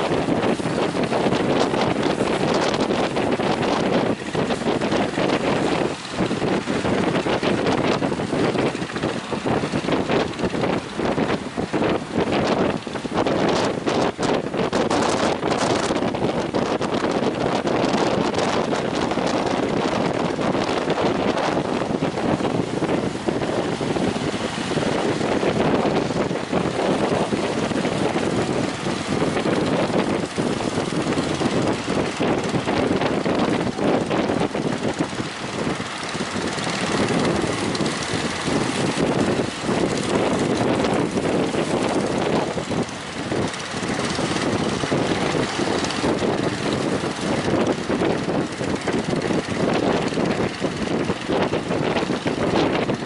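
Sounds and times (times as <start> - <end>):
speedboat engine running: 0.0 - 53.0
wind noise on microphone: 0.0 - 53.0.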